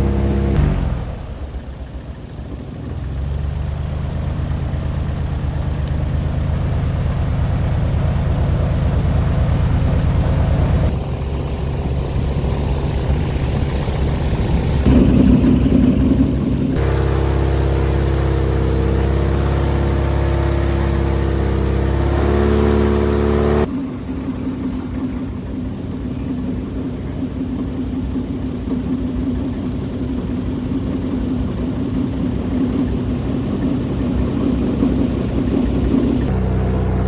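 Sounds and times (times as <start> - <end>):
airboat engine and propeller: 0.0 - 37.0.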